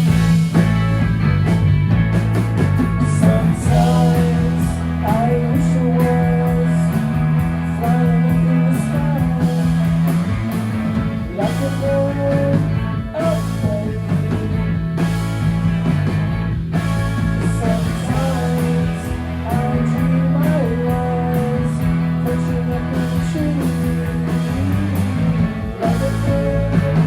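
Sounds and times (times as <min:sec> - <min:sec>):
rock music with guitar and drums: 0:00.0 - 0:27.0.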